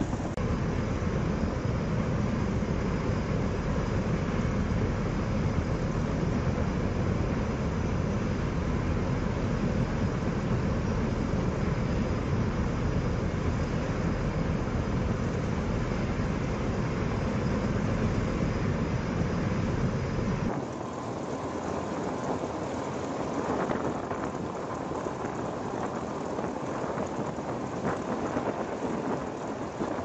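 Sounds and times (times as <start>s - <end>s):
helicopter running: 0.0s - 30.0s
tiltrotor aircraft lifting off: 0.0s - 30.0s.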